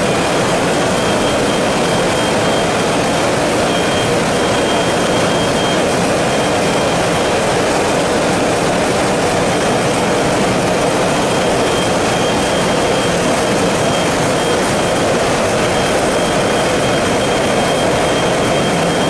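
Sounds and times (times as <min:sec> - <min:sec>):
conveyor motors running: 0:00.0 - 0:19.0.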